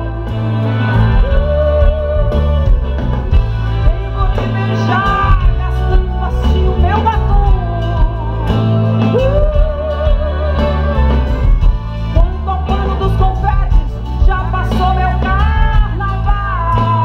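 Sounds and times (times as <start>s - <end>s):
amplified band with bass and beat: 0.0s - 17.0s
woman singing: 0.0s - 17.0s.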